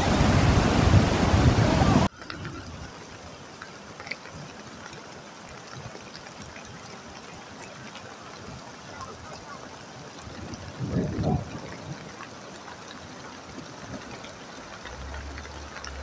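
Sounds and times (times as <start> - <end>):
floodwater rushing over stones: 0.0 - 16.0.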